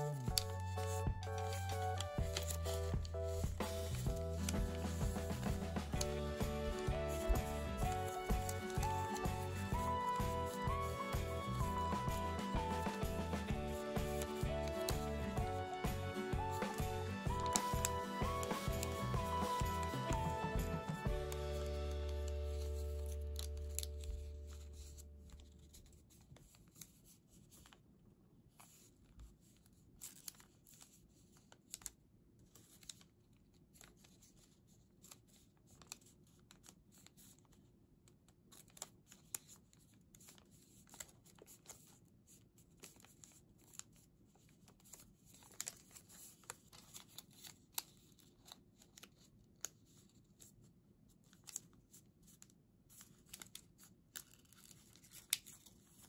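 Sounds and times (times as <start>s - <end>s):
paper rustling and crinkling: 0.0s - 27.8s, 28.5s - 37.8s, 38.4s - 56.0s.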